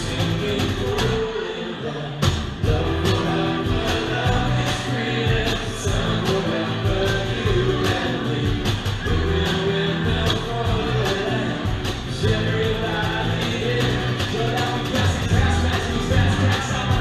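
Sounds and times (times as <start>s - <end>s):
steady drum beat: 0.0s - 1.2s, 2.2s - 17.0s
electric bass guitar: 0.0s - 1.4s, 2.2s - 17.0s
guitar: 0.0s - 17.0s.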